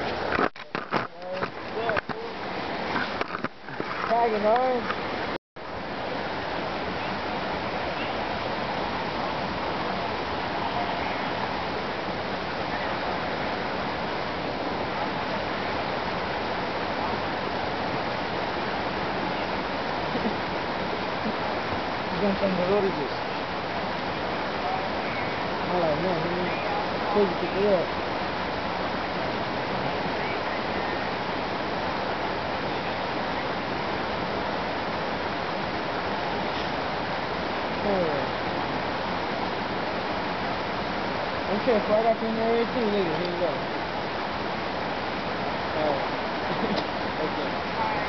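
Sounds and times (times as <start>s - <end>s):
mountain creek rushing: 0.0s - 48.0s.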